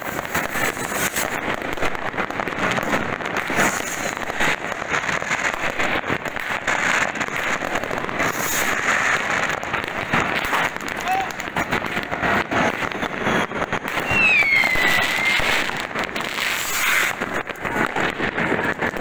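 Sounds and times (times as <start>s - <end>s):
fireworks and firecrackers bangs: 0.0s - 19.0s.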